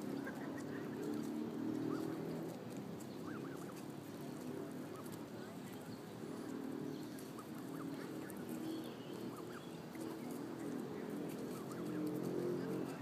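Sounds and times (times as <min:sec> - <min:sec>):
geese murmuring: 0:00.0 - 0:13.0
goslings chirping: 0:00.0 - 0:13.0.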